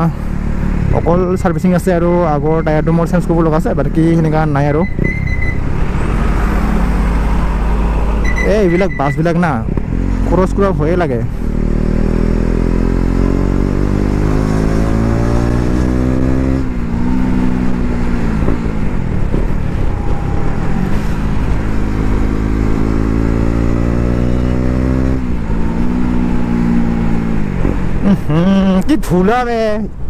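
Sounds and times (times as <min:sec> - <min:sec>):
motorcycle engine accelerating: 0:00.0 - 0:28.8.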